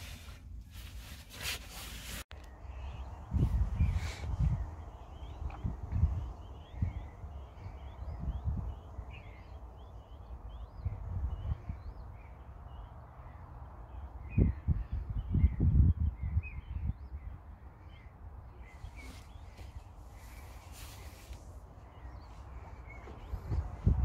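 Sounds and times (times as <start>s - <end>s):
small birds chirping: 0.0s - 24.0s
wind gusting on microphone: 1.5s - 24.0s.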